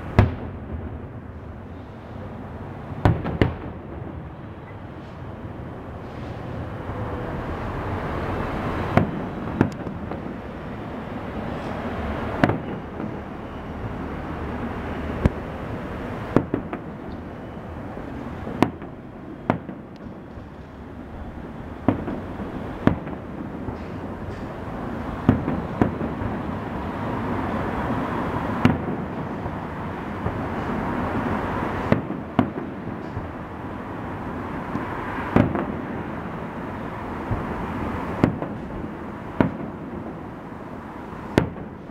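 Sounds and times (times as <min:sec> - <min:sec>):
wash of distant firework noise: 0:00.0 - 0:41.9.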